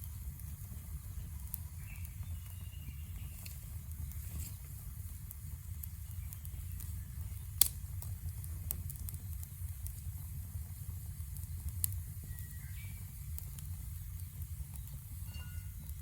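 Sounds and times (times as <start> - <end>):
campfire crackling and popping: 0.0 - 16.0
steady low rumble: 0.0 - 16.0.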